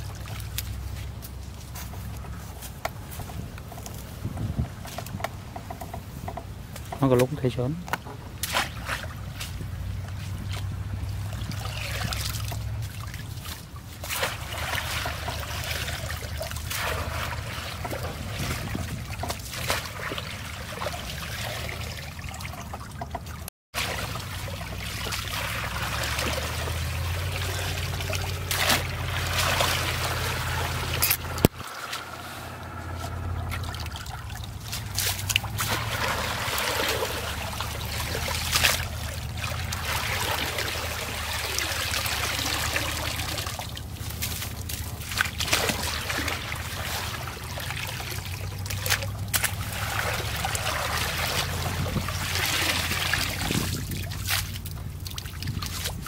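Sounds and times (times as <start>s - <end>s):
water running through basket: 0.0s - 7.6s, 8.3s - 56.0s
water splashing and trickling: 0.0s - 56.0s.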